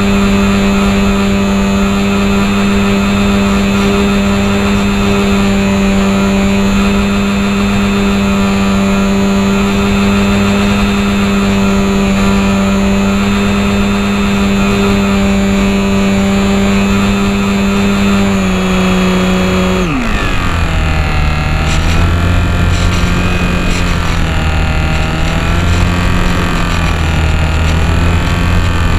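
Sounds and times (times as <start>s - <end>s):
small electric motor and propeller: 0.0s - 28.9s.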